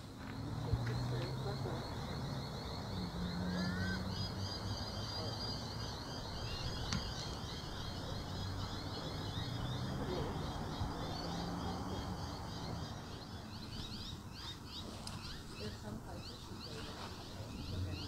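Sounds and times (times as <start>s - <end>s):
birds chirping high calls: 0.0s - 18.0s.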